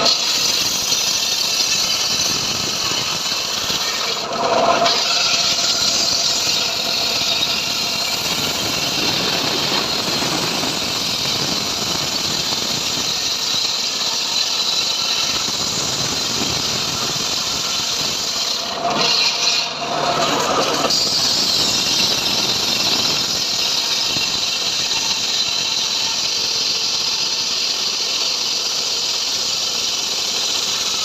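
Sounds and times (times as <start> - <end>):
sawmill blade cutting log: 0.0 - 31.0.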